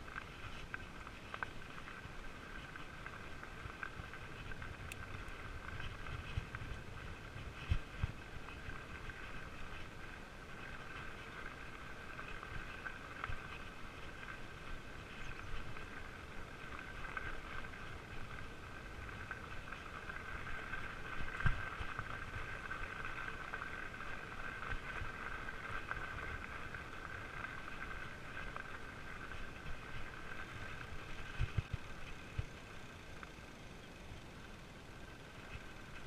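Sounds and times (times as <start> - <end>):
bike tyres rumbling on gravel: 0.0 - 36.0.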